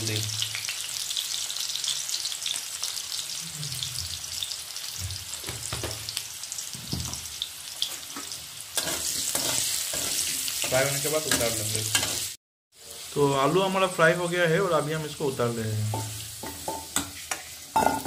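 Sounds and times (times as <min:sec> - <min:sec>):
potatoes sizzling in hot oil: 0:00.0 - 0:18.0.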